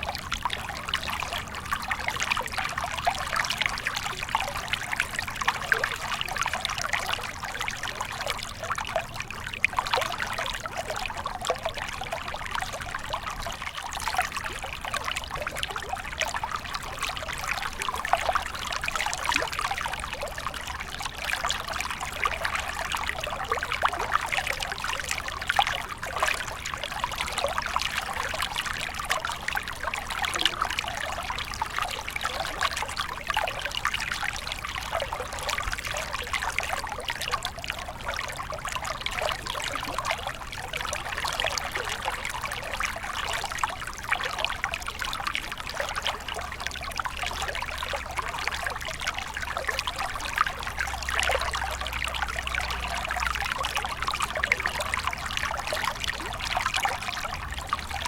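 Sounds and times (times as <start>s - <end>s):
small stream trickling: 0.0s - 58.0s.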